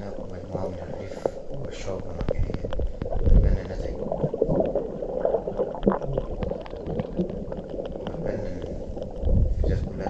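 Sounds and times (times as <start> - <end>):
underwater gurgling and bubbling: 0.0 - 10.0.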